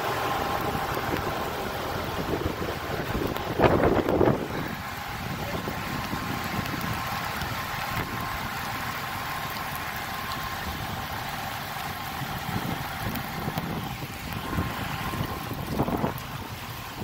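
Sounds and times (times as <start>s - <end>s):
diesel truck engine idling: 0.0s - 17.0s
rain pouring on wet street: 0.0s - 17.0s
wind rumbling on microphone: 0.0s - 17.0s.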